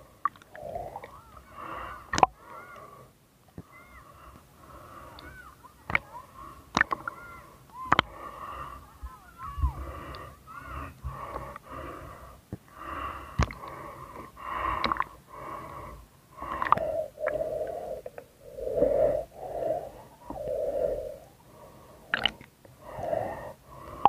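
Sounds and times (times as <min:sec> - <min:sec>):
breathing through snorkel underwater: 0:00.0 - 0:08.9, 0:09.8 - 0:24.0.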